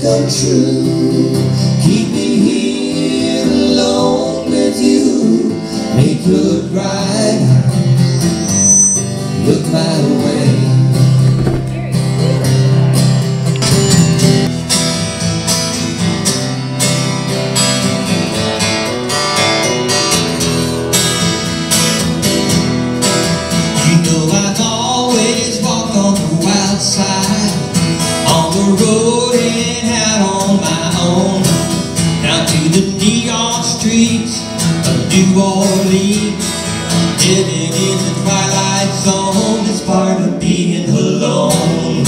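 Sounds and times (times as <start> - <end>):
acoustic guitar strumming: 5.4 - 42.0.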